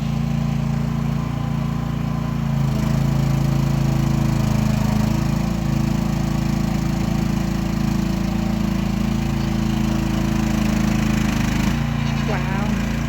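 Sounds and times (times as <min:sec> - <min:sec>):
small excavator engine running: 0:00.0 - 0:13.0.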